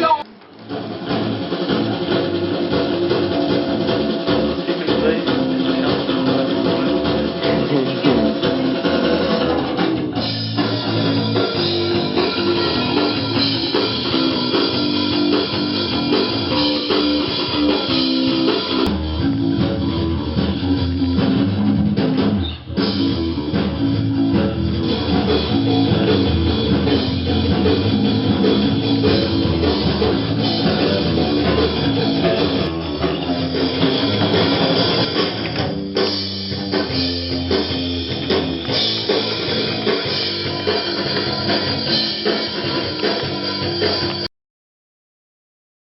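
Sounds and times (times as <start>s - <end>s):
rock music with guitars and drums: 0.0s - 44.3s.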